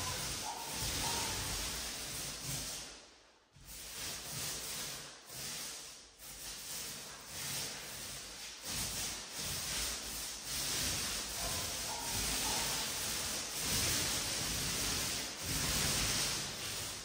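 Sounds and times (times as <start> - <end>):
paint roller rasping on a wall: 0.0 - 17.0.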